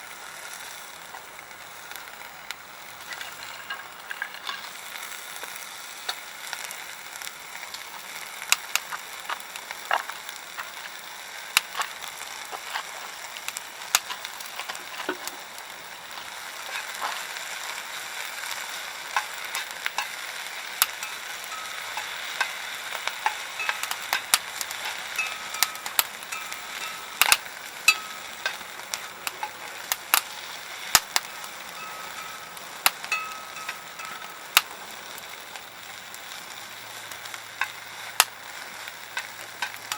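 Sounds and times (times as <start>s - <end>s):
food sizzling in a pan: 0.0s - 39.9s
wood fire crackling and popping: 0.0s - 39.9s.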